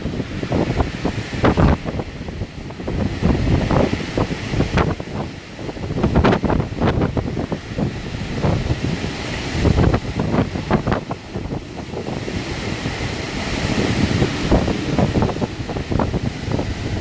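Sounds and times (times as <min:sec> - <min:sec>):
wind gusting: 0:00.0 - 0:17.0.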